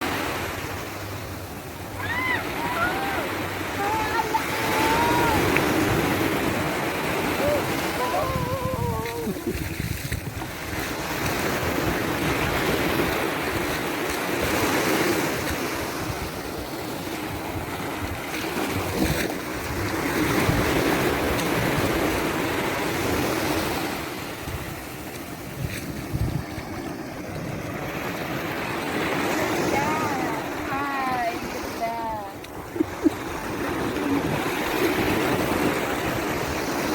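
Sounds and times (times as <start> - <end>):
waves washing up a beach: 0.0 - 36.9
wind rumbling on microphone: 0.0 - 36.9.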